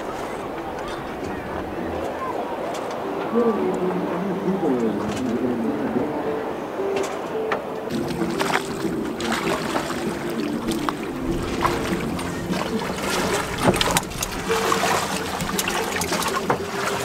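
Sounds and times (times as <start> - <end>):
oars knocking in rowlocks: 0.0 - 3.9, 7.0 - 17.0
oars dipping into water: 0.0 - 6.0, 7.0 - 17.0
tune playing: 0.0 - 17.0.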